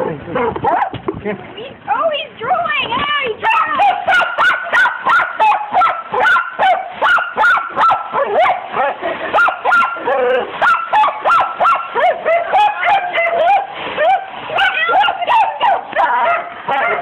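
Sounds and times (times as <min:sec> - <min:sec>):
dog barking excitedly: 0:00.6 - 0:01.0, 0:03.4 - 0:17.0.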